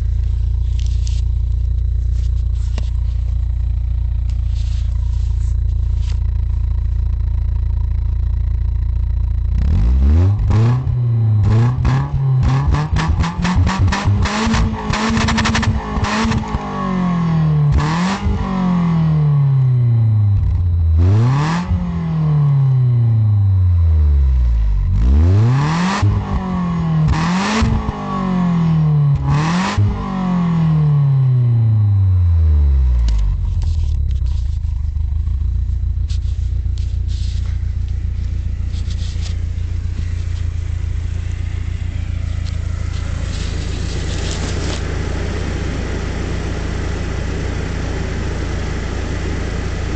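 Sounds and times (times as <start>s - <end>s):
car engine revving and idling: 0.0s - 49.9s.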